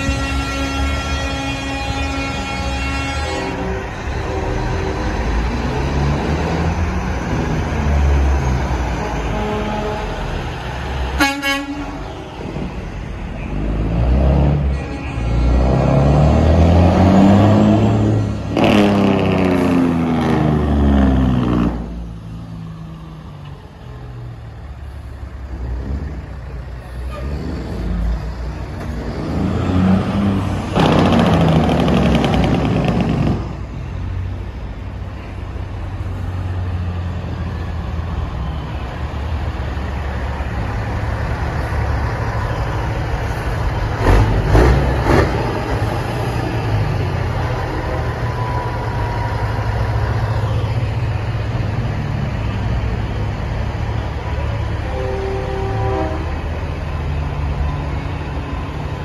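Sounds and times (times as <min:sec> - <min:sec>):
diesel trucks driving past: 0:00.0 - 0:59.0.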